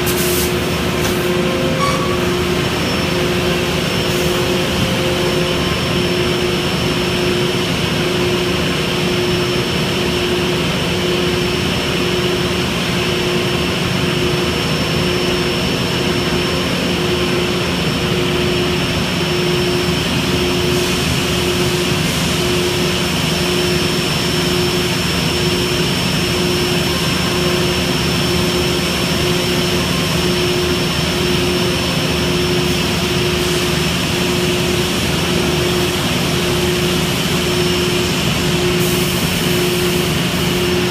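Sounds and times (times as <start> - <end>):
pulsing hum: 0.0 - 40.9
shop machinery drone: 0.0 - 40.9.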